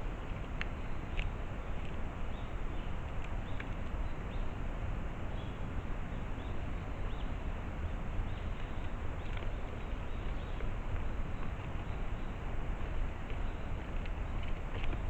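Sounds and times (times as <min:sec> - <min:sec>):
small birds chirping: 0:00.0 - 0:04.6, 0:05.3 - 0:15.0
background hiss and rumble: 0:00.0 - 0:15.0.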